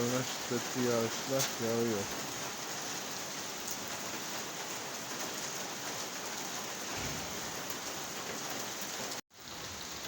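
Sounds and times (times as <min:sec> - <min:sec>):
heavy rain on cars: 0:00.0 - 0:10.0.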